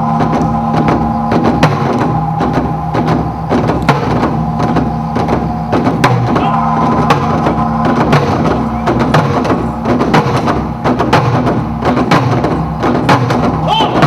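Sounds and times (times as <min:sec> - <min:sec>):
sharp percussion strikes: 0:00.0 - 0:14.0
sustained low tones: 0:00.0 - 0:14.0.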